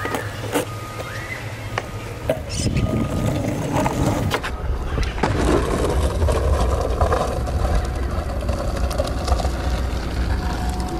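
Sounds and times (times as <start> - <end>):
skateboard rolling on asphalt: 1.8 - 10.9.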